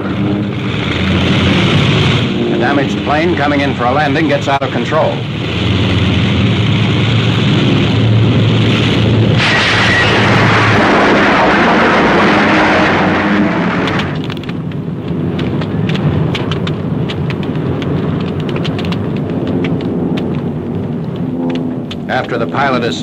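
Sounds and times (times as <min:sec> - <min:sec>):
fire crackling: 0:00.0 - 0:23.0
fire roaring: 0:00.0 - 0:23.0.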